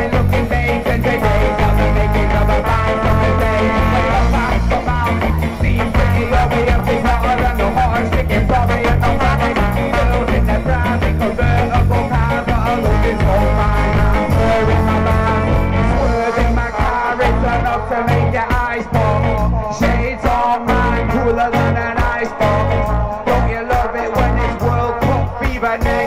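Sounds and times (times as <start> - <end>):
live ska band playing: 0.0 - 26.0
person singing: 0.0 - 26.0.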